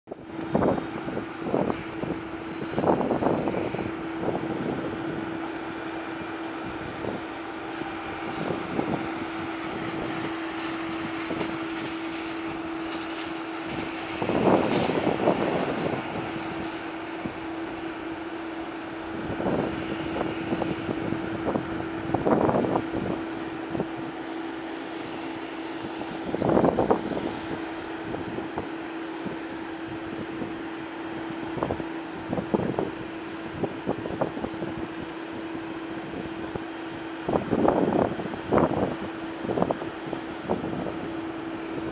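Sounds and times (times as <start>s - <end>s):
airliner engine hum: 0.0s - 41.9s
wind buffeting microphone: 0.1s - 41.9s.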